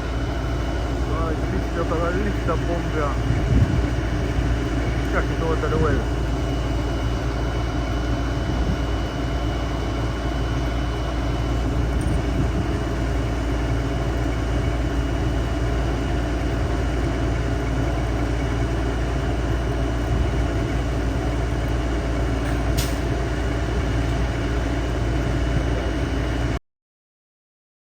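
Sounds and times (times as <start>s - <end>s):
heavy engine running: 0.0s - 26.6s.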